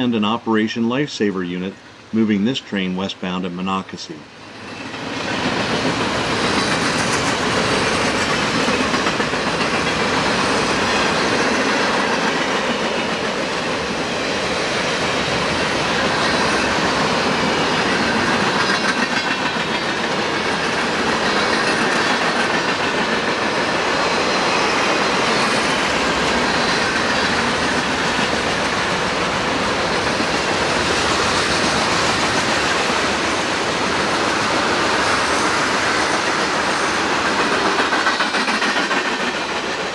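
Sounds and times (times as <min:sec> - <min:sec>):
train wheels on rails: 0:01.6 - 0:39.9.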